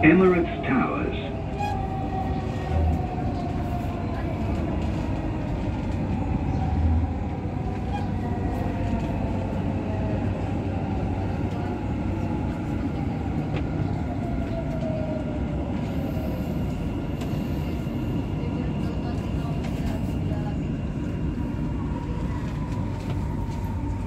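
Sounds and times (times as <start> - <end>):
train rumble from inside: 0.0 - 24.0.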